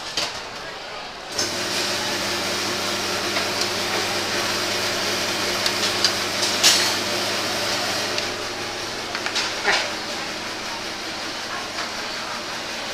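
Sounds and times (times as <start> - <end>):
electric machine hum with hiss: 1.3 - 12.9.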